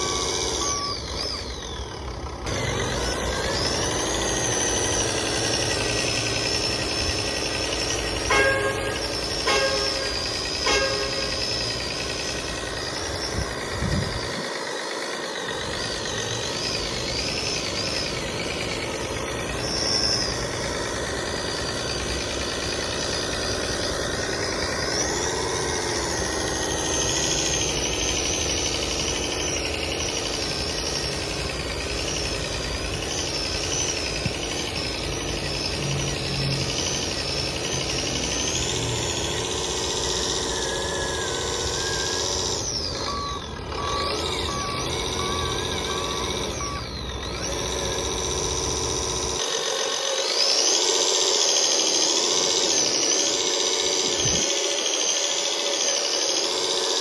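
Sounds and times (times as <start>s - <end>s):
high wavering whine: 0.0s - 57.0s
model vehicle motor drone: 0.0s - 57.0s.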